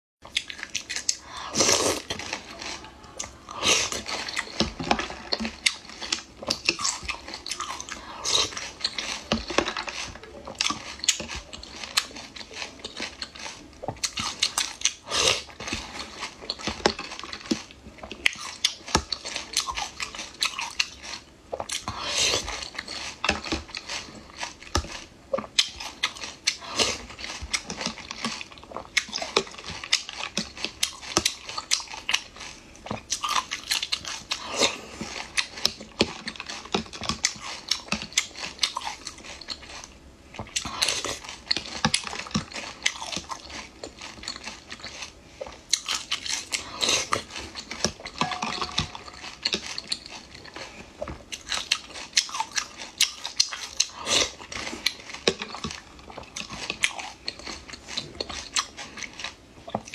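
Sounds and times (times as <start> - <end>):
eating snails: 0.2 - 59.9.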